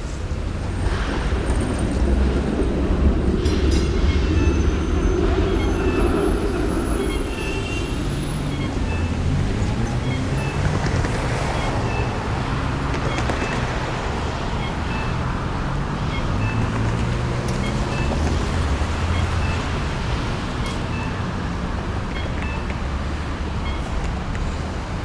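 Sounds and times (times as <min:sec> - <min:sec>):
heavy vehicle rumble: 0:00.0 - 0:25.0
passing cars: 0:00.0 - 0:25.0.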